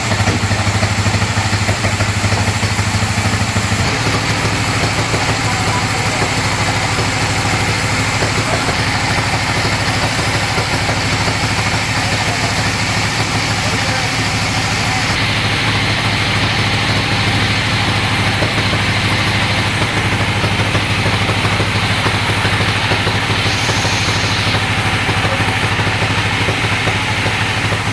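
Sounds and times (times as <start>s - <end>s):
bandsaw engine running: 0.0s - 27.9s.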